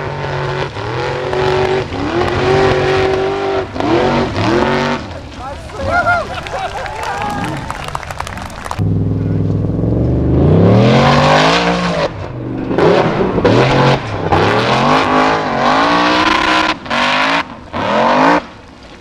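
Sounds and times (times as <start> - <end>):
buggy engine revving: 0.0 - 19.0.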